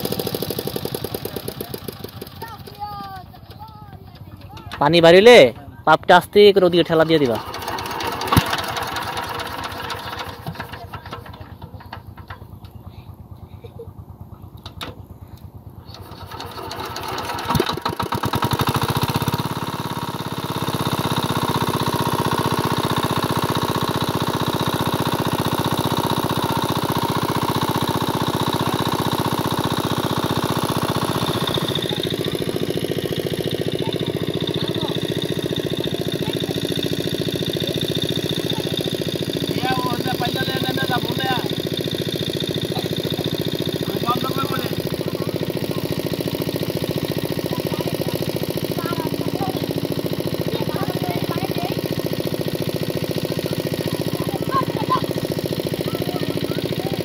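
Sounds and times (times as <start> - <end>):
water pumping: 0.0 - 2.7, 6.2 - 12.8, 15.9 - 57.0
diesel engine running: 0.0 - 57.0
engine knock: 0.0 - 57.0.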